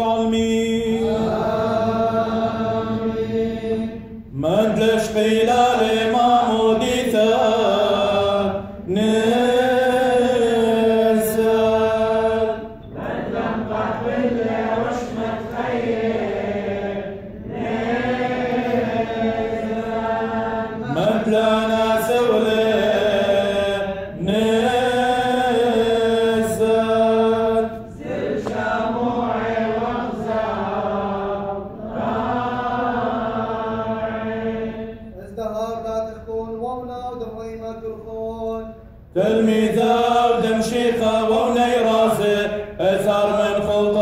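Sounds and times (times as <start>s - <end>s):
men chanting: 0.0s - 35.0s, 39.2s - 44.0s.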